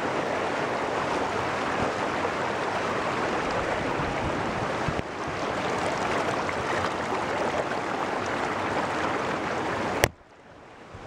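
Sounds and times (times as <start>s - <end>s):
stream water rushing over stone: 0.0s - 11.0s.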